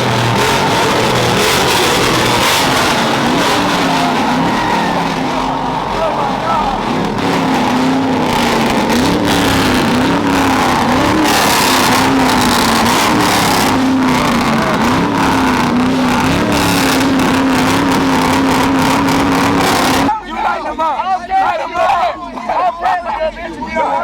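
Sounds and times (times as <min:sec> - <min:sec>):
truck engine revving: 0:00.0 - 0:20.1.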